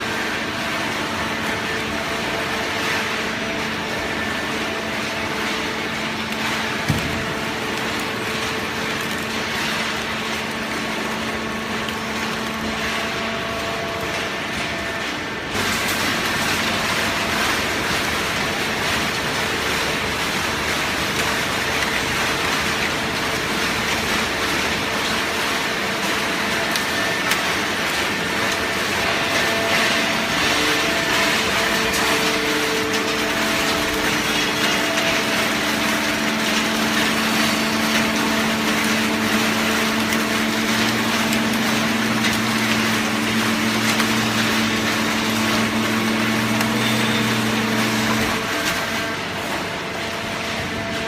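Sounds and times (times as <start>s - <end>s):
conveyor machinery humming: 0.0s - 51.0s.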